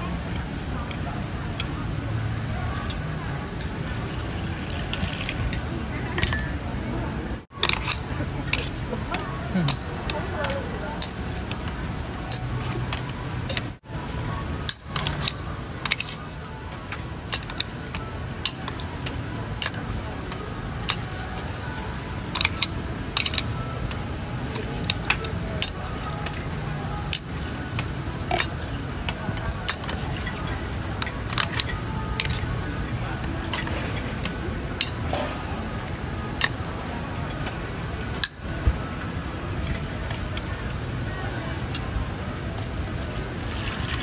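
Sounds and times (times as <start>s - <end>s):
hubbub of voices: 0.0s - 44.0s.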